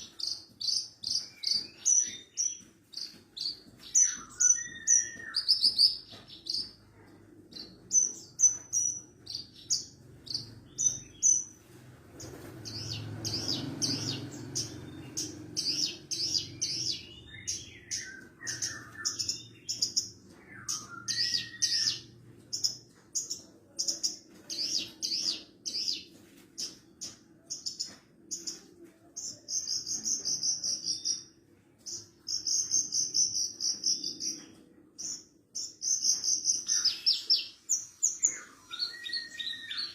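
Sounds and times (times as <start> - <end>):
bird singing chirps and trills: 0.0 - 6.8, 12.2 - 39.9.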